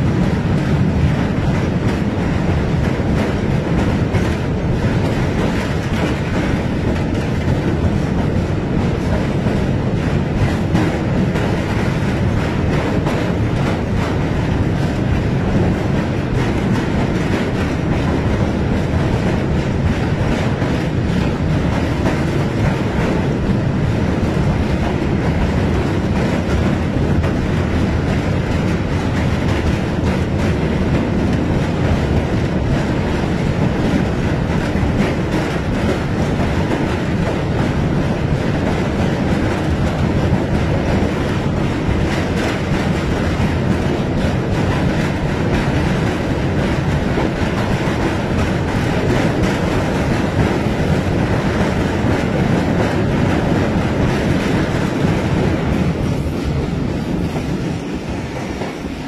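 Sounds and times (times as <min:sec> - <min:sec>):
train wheels rumbling on bridge: 0:00.0 - 0:59.0.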